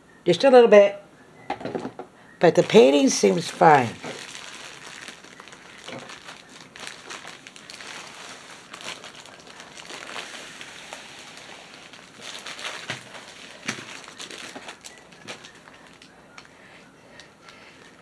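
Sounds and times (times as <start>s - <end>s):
plastic bag crinkling: 2.4s - 18.0s.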